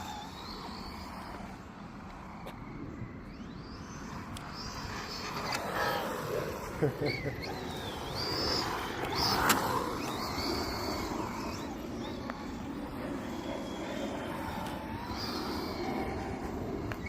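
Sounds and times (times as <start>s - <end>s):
rc car motor whining: 0.0s - 17.0s
tyres on ground: 0.0s - 17.0s.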